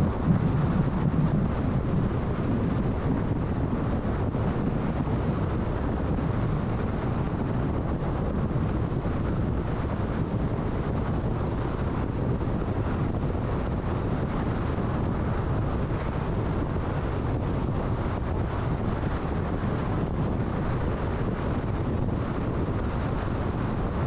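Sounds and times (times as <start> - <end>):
car tyre and wind noise: 0.0 - 24.0.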